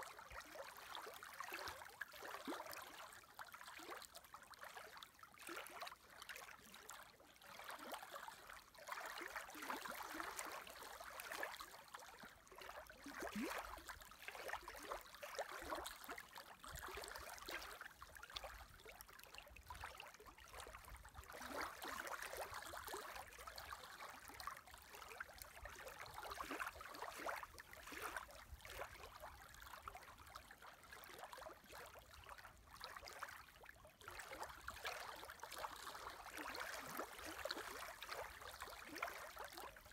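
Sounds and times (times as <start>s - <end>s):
small waves lapping at shore: 0.0s - 39.9s.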